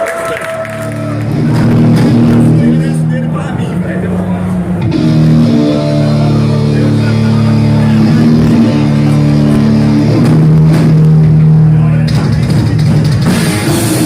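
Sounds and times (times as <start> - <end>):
electric guitars sustained chords: 0.4 - 14.0.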